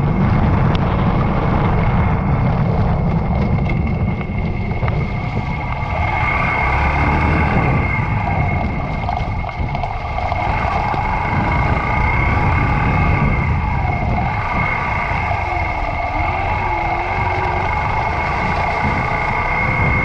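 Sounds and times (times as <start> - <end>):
continuous low rumble: 0.0 - 20.0
motorcycle engine running: 0.0 - 20.0.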